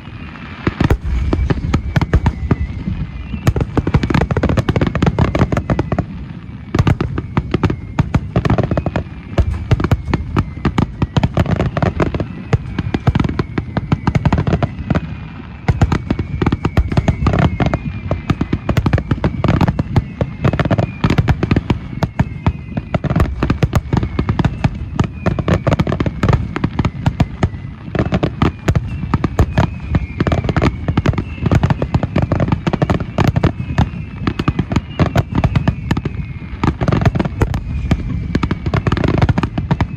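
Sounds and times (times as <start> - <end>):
falling fireworks whistles: 0.0 - 39.9
fireworks bursting and crackling: 0.0 - 39.9.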